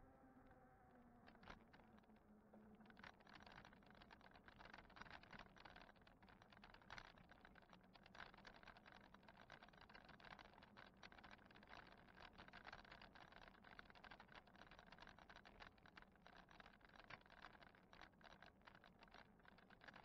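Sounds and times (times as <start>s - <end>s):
bike rattling and clicking: 2.9s - 20.0s.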